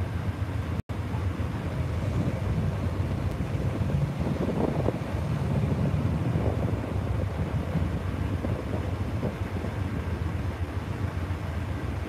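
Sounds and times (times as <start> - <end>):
passenger train idling rumble: 0.0 - 12.0
wind on microphone: 1.5 - 12.0.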